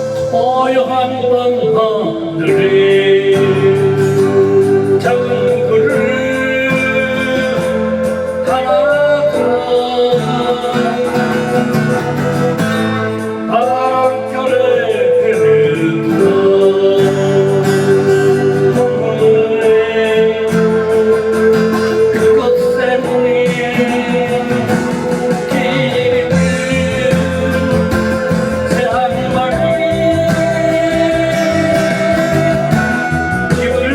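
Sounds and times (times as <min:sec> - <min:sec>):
guitar accompaniment: 0:00.0 - 0:33.9
person singing a slow ballad: 0:00.0 - 0:33.9.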